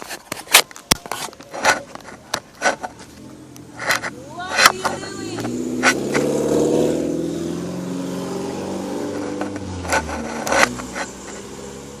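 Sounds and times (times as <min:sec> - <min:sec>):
car engine running: 0:01.9 - 0:12.0.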